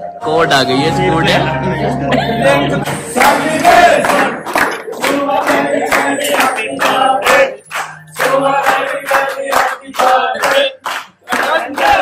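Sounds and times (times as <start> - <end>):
group singing in chorus: 1.2 - 12.0
rhythmic clapping: 2.2 - 12.0.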